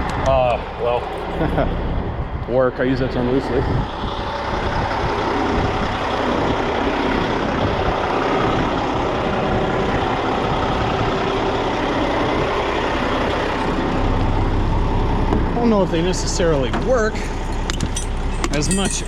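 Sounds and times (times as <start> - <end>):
semi truck engine running: 0.0 - 19.0.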